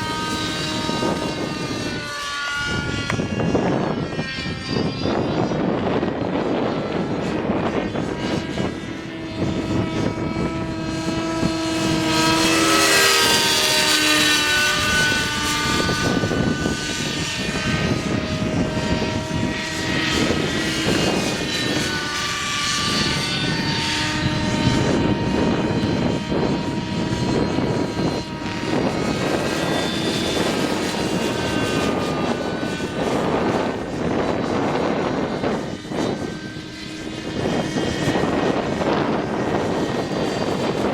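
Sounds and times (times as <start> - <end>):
whining model aircraft motors: 0.0 - 40.9
wind noise on microphone: 0.0 - 40.9.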